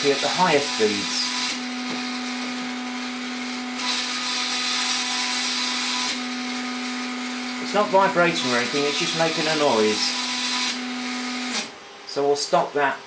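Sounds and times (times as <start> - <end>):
stepper motor whining hum: 0.0 - 11.8.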